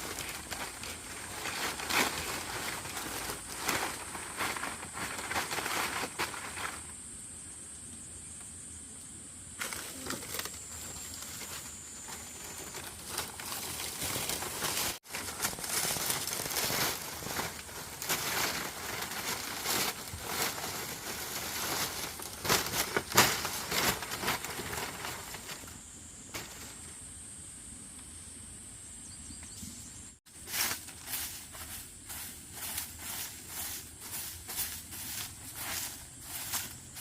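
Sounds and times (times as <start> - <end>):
rustling and crinkling: 0.0 - 7.0, 9.6 - 27.0, 30.3 - 37.0.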